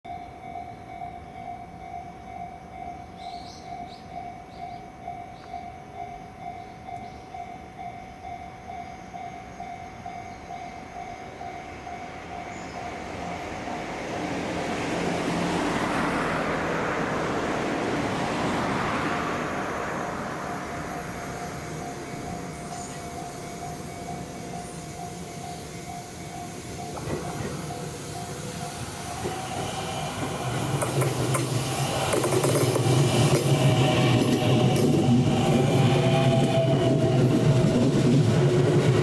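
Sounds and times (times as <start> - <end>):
electric train rumbling past: 0.1 - 39.0
level-crossing warning bell: 0.1 - 39.0.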